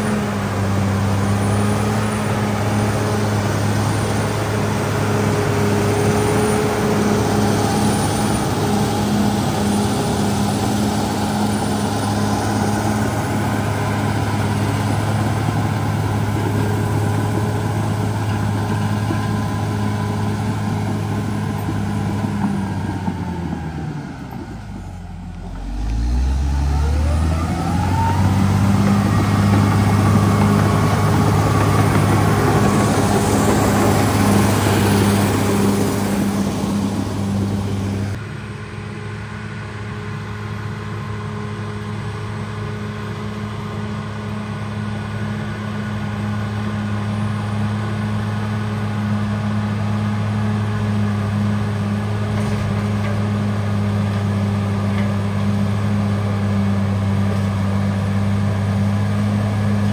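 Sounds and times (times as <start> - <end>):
bulldozer diesel engine revving: 0.0 - 38.2, 40.3 - 59.9.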